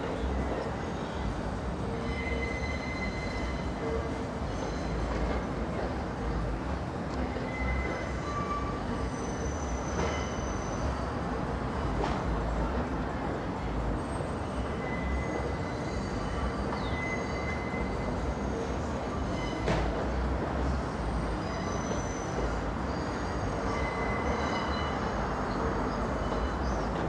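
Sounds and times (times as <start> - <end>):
train wheels squealing: 0.0 - 6.4, 7.2 - 11.3, 14.0 - 27.0
subway train rumbling: 0.0 - 27.0.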